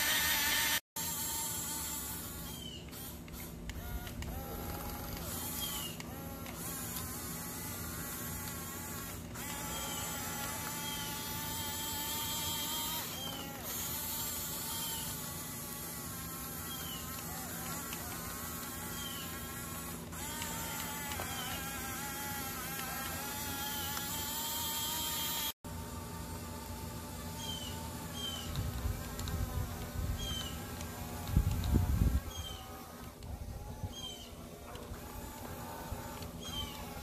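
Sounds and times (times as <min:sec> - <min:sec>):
toy electric motors whining: 0:00.0 - 0:37.0.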